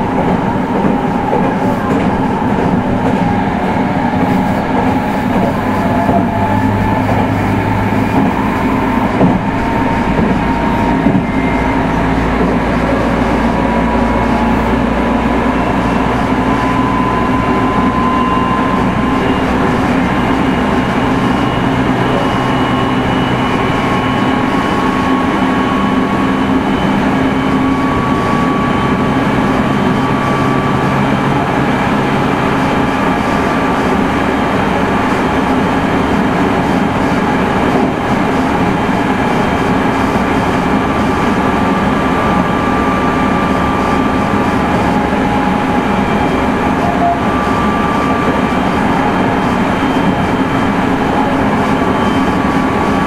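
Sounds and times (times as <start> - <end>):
train motor and inverter tones: 0.0 - 53.0
wheels rumbling on rail: 0.0 - 53.0.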